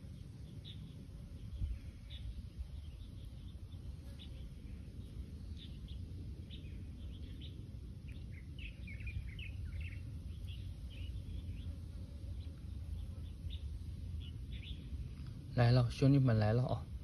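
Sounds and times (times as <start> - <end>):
small birds chirping: 0.0 - 16.9
steady low rumble: 0.0 - 17.0.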